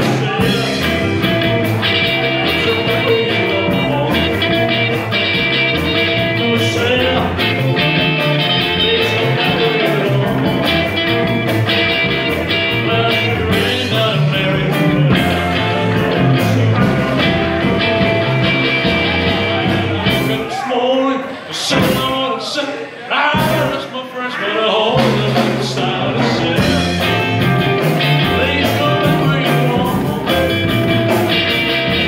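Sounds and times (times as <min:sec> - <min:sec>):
drum kit: 0:00.0 - 0:20.6, 0:21.6 - 0:22.3, 0:23.2 - 0:23.9, 0:24.8 - 0:32.0
electric guitars: 0:00.0 - 0:22.3, 0:23.3 - 0:32.0.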